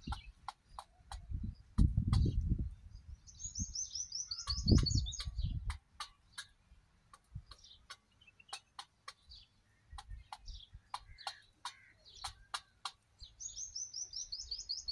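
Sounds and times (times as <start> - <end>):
small bird chirping: 0.0 - 14.9.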